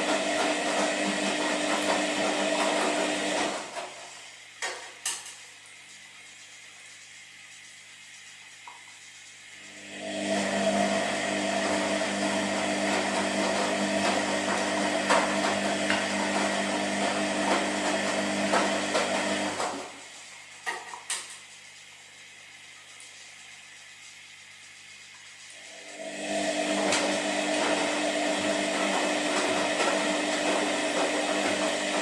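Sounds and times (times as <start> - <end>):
washing machine running: 0.0 - 32.0.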